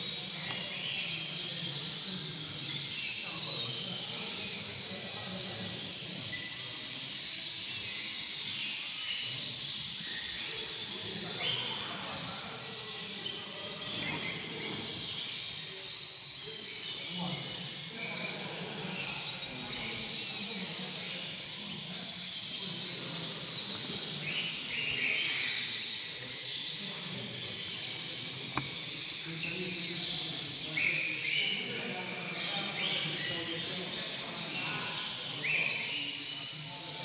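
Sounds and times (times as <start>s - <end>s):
bird twittering and chirping: 0.0s - 37.0s.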